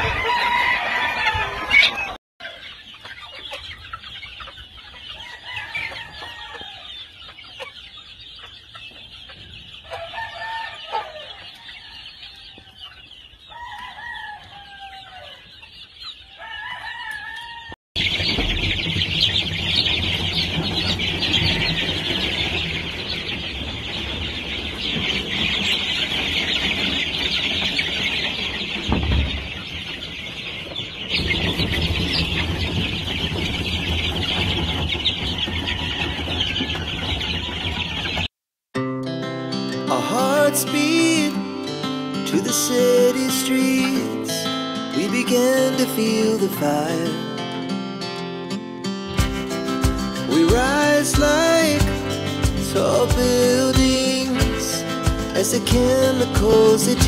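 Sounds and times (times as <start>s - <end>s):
chickens calling: 0.0s - 38.3s, 39.9s - 57.0s
chicks peeping: 0.0s - 38.3s, 49.2s - 57.0s.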